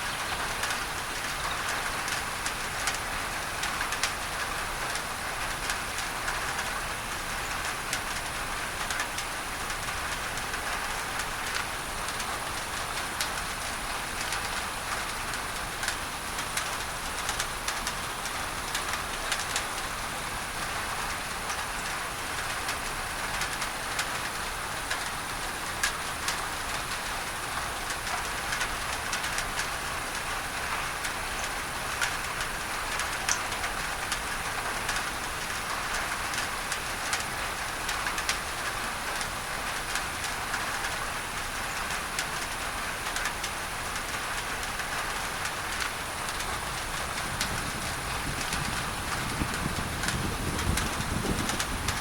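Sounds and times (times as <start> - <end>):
pink noise hiss: 0.0 - 52.0
rain on a tin roof: 0.0 - 52.0.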